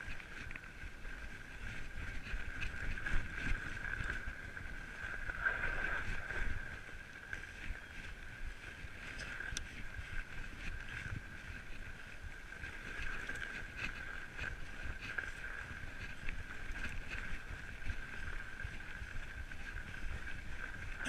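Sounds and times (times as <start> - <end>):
bike tyres rolling on snow: 0.0 - 21.0
constant high hum: 0.0 - 21.0
wind on microphone: 0.0 - 21.0.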